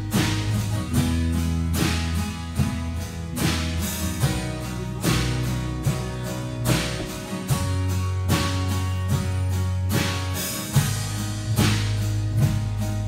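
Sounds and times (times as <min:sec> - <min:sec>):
bass line: 0:00.0 - 0:13.0
drum kit with cymbal crashes: 0:00.0 - 0:13.0
electric guitar: 0:00.0 - 0:13.0
strummed acoustic guitars: 0:00.0 - 0:13.0.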